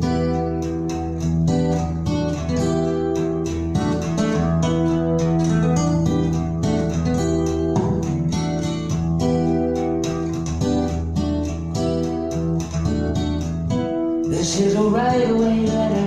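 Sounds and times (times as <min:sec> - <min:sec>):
steady bass line: 0:00.0 - 0:16.0
strummed acoustic guitar: 0:00.0 - 0:16.0.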